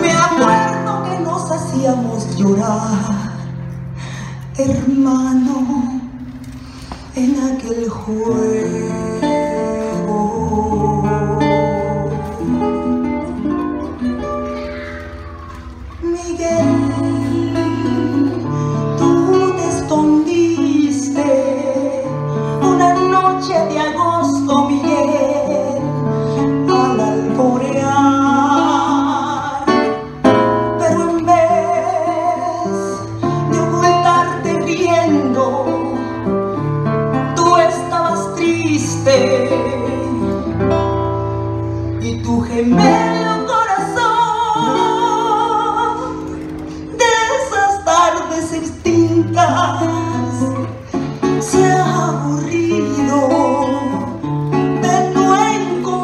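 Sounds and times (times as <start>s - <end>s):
woman singing: 0.0s - 3.8s, 4.4s - 6.2s, 7.1s - 13.9s, 15.8s - 41.1s, 42.0s - 56.0s
classical guitar: 0.0s - 56.0s.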